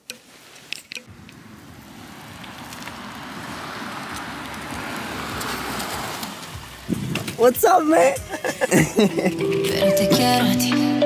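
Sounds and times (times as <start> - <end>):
car approaching: 1.1 - 10.6.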